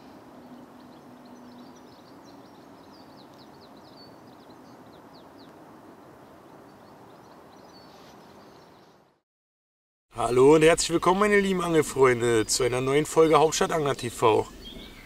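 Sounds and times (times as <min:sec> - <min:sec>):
outdoor background hiss: 0:00.0 - 0:09.2, 0:10.1 - 0:15.0
small birds chirping: 0:00.0 - 0:09.2, 0:11.1 - 0:15.0.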